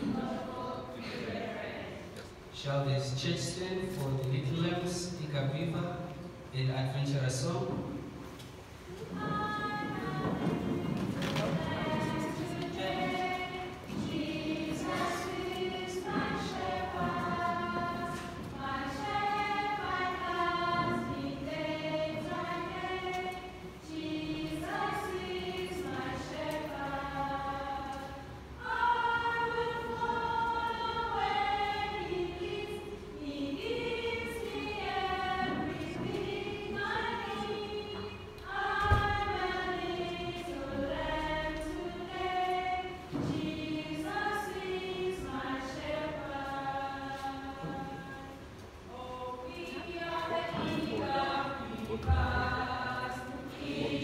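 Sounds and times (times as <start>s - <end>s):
group of voices singing: 0.0s - 2.4s, 8.9s - 54.0s.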